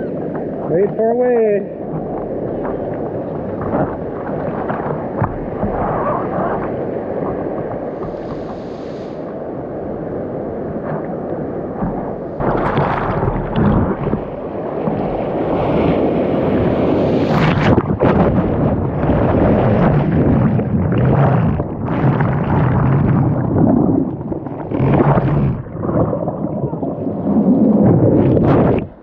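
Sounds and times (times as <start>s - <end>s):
ocean surf sloshing: 0.0s - 29.0s
wind on microphone: 0.0s - 29.0s.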